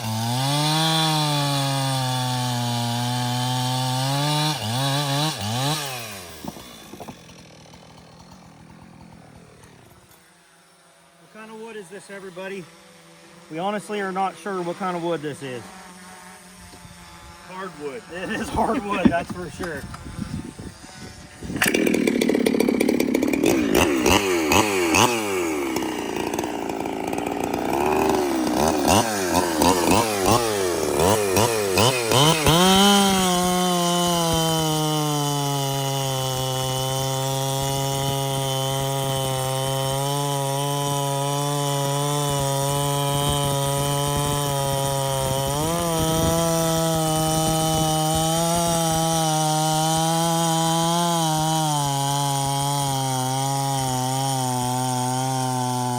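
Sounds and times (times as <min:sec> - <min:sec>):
chainsaw cutting wood: 0:00.0 - 0:55.9
chainsaw revving: 0:00.0 - 0:55.9.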